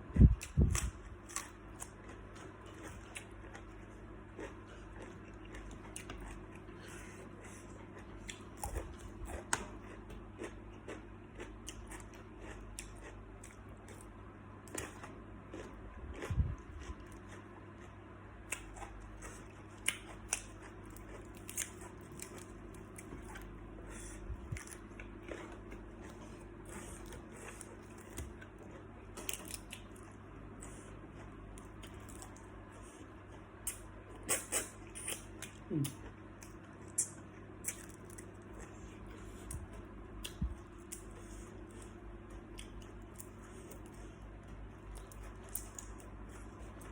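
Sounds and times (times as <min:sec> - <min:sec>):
chewing and crunching: 0:00.0 - 0:46.9.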